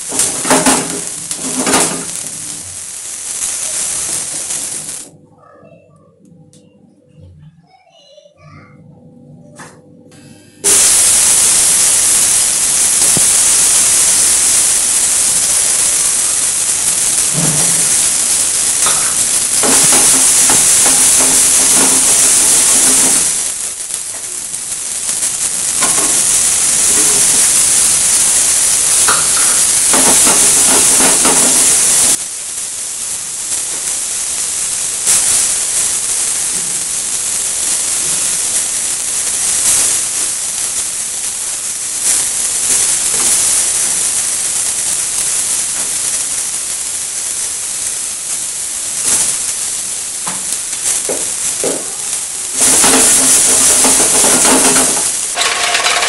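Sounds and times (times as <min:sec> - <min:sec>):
vegetables sizzling in oil: 0:00.0 - 0:05.2, 0:10.2 - 0:56.0.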